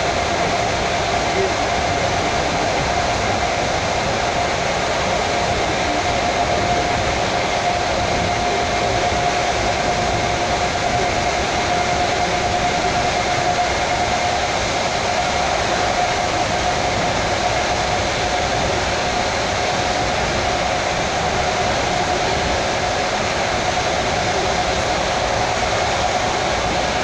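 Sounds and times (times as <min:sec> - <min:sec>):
constant whine: 0:00.0 - 0:27.0
train wheels rushing rumble: 0:00.0 - 0:27.0.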